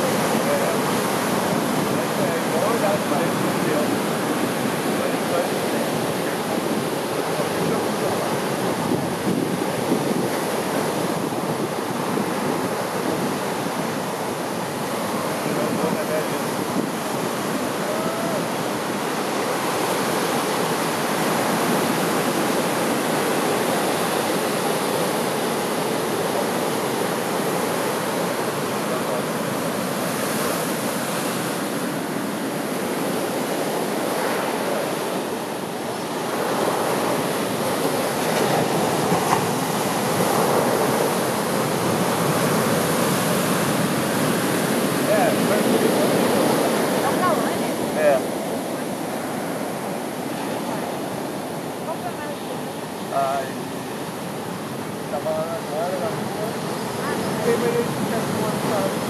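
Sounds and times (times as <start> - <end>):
heavy surf breaking on beach: 0.0 - 59.0.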